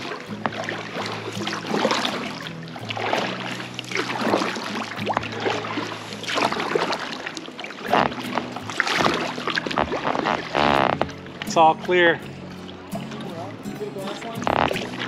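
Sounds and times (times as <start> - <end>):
paddle strokes splashing in water: 0.0 - 15.0.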